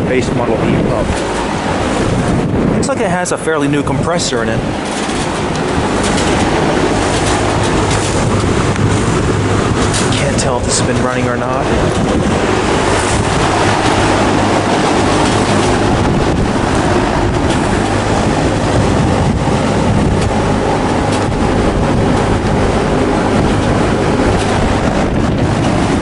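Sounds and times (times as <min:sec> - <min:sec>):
low steady hum: 0:00.0 - 0:26.0
wind buffeting microphone: 0:00.0 - 0:26.0.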